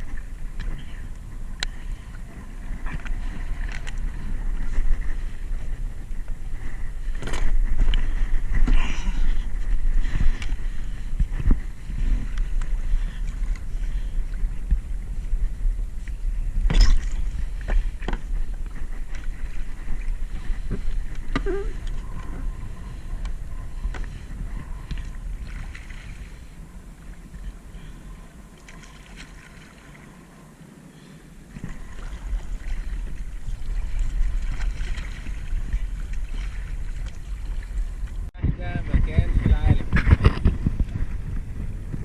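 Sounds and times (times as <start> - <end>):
water lapping around kayak: 0.0 - 42.0
wind buffeting microphone: 0.0 - 42.0.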